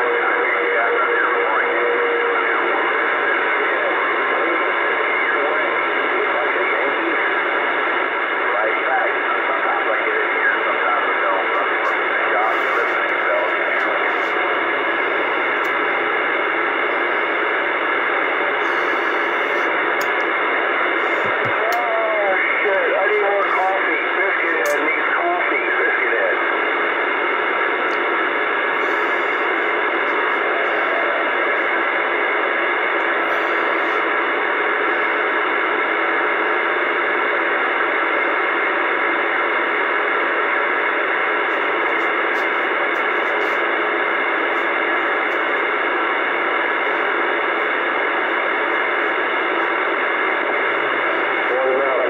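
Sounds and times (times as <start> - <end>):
radio static hiss: 0.0 - 52.0.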